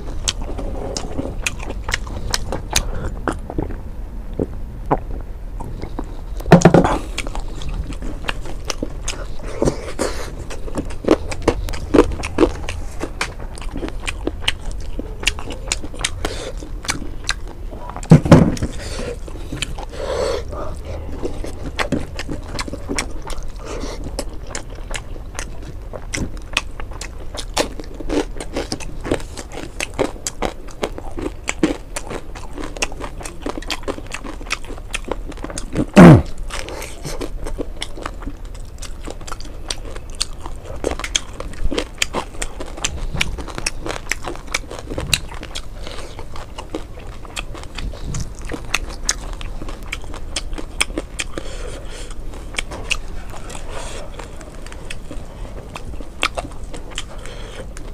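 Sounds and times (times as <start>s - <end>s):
person chewing crunchily: 0.0s - 57.9s.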